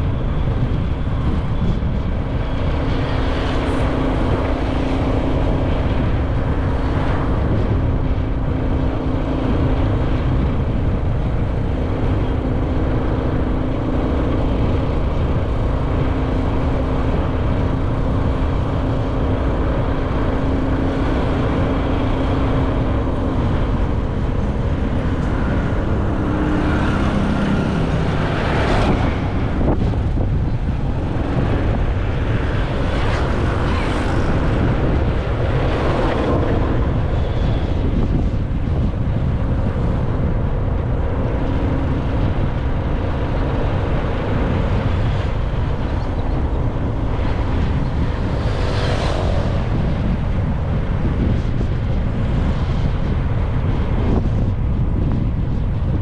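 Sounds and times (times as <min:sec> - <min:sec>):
motorcycle engine running: 0:00.0 - 0:52.4
wind rumble on microphone: 0:00.0 - 0:56.0.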